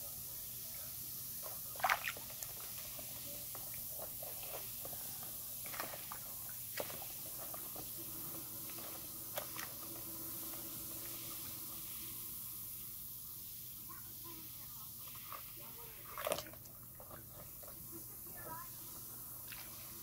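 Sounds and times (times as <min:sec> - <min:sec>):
bath bombs fizzing in water: 0:00.0 - 0:20.0.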